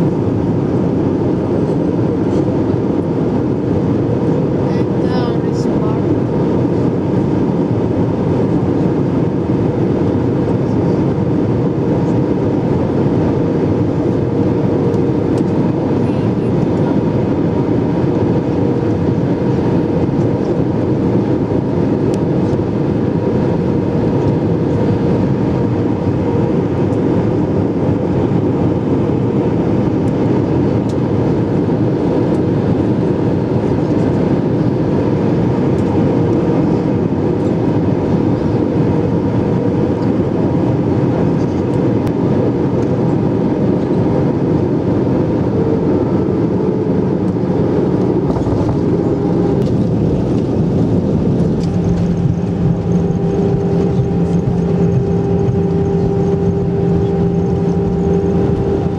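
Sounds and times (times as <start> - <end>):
airplane cabin engine roar: 0.0 - 58.9
steady hum: 0.0 - 58.9.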